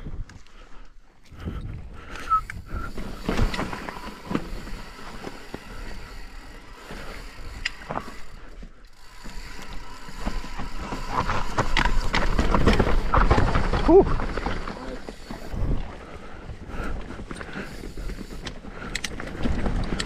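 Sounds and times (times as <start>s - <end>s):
bike freewheel ticking: 2.2s - 20.0s
bike rattling over rocks: 2.3s - 20.0s.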